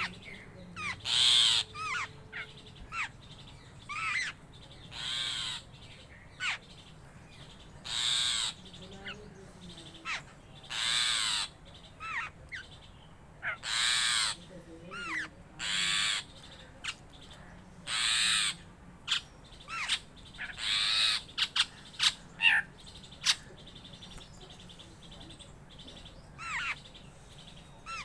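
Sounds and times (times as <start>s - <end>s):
bird harsh caw-like calls: 0.0s - 9.2s, 9.8s - 12.7s, 13.4s - 24.2s, 25.1s - 28.0s.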